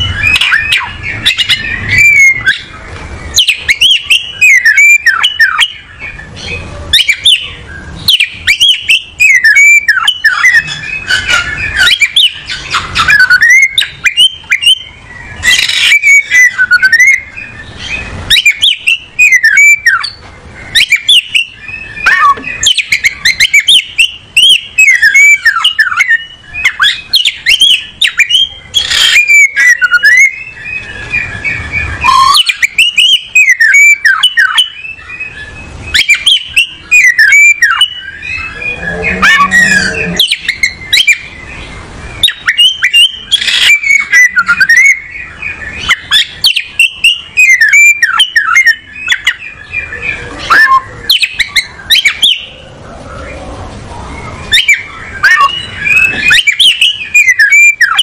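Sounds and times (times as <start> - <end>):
bird singing whistled notes: 0.0 - 52.6, 54.1 - 58.0.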